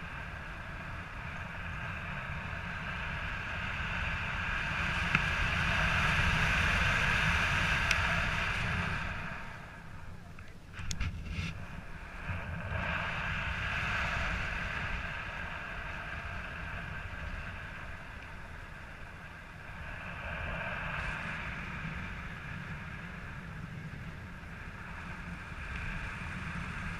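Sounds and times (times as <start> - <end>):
wind rumble with hiss: 0.0 - 26.9.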